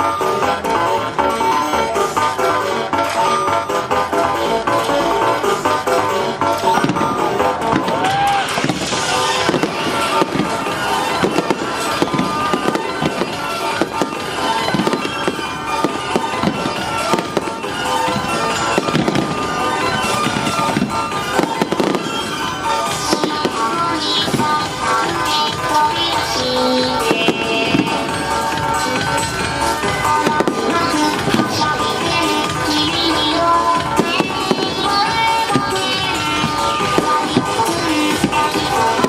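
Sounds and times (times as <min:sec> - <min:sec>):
fireworks bursting: 0:00.0 - 0:39.0
music playing: 0:00.0 - 0:39.0.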